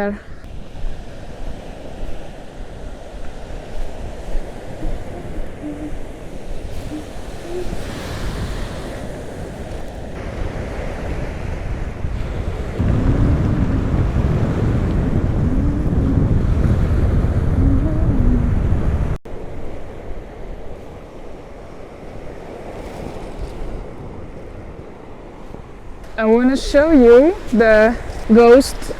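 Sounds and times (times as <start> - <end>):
sea surf: 0.0 - 28.9
wind buffeting microphone: 0.0 - 28.9.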